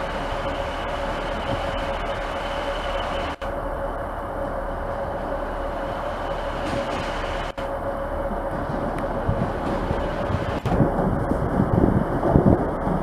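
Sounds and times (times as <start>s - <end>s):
train running: 0.0s - 13.0s.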